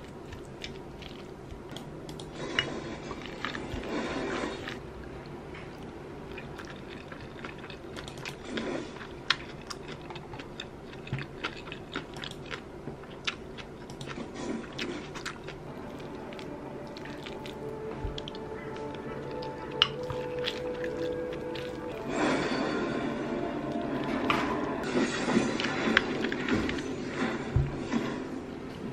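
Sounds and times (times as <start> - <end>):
person chewing rice: 0.0 - 27.3.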